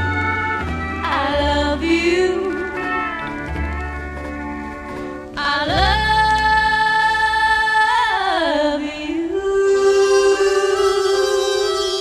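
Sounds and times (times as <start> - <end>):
country gospel singing: 0.0 - 12.0.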